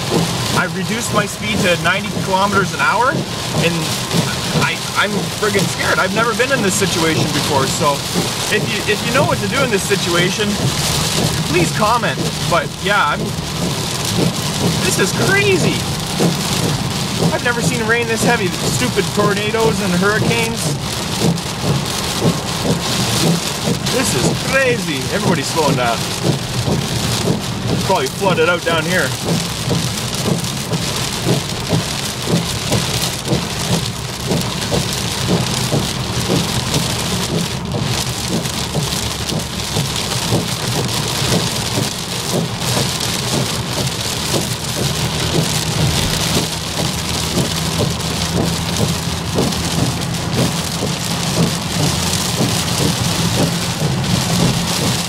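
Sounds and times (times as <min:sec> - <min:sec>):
heavy rain drumming on car roof: 0:00.0 - 0:55.0
low drone of car driving: 0:00.0 - 0:55.0.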